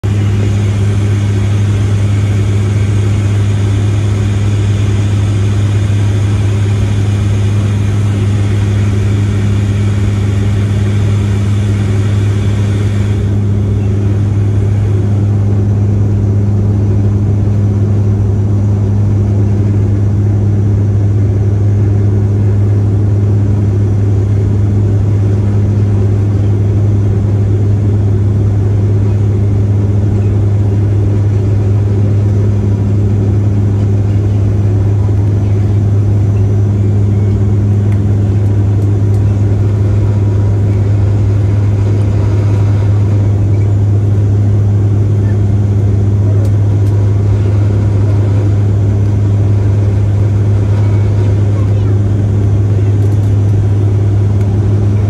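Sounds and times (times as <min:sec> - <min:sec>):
propeller drone: 0:00.0 - 0:55.0.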